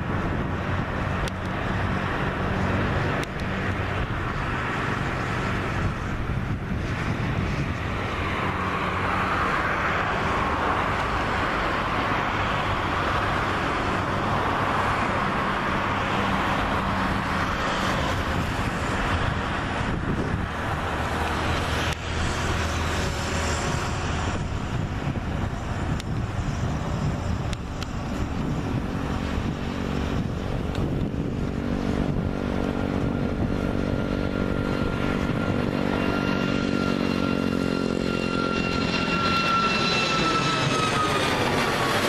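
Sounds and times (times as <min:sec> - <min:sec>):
jet engines running: 0:00.0 - 0:42.0.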